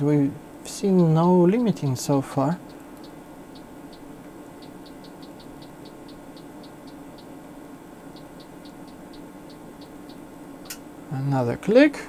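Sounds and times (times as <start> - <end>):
cooling fans running: 0.0 - 12.0.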